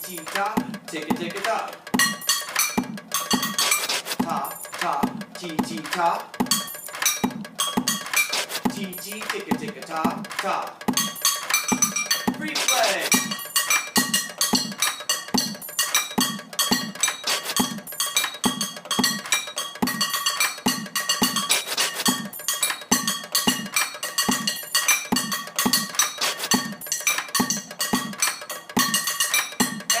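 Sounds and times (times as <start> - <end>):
looping percussion beat: 0.0 - 30.0
metal pots knocked with sticks: 0.0 - 30.0.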